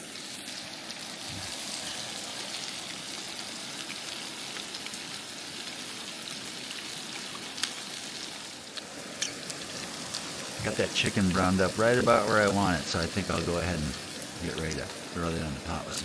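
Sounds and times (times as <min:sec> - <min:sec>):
chicken sizzling in a pan: 0:00.0 - 0:16.0
crackles and pops of frying: 0:00.0 - 0:16.0.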